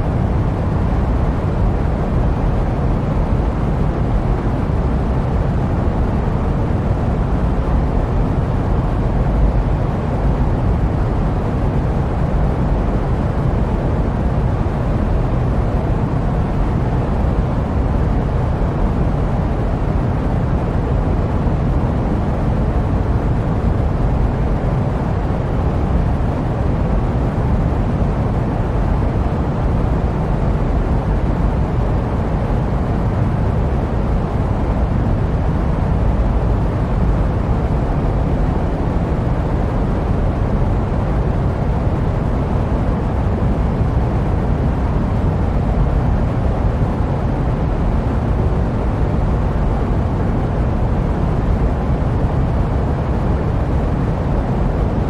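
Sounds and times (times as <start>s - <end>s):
jet airplane rumble: 0.0s - 55.0s.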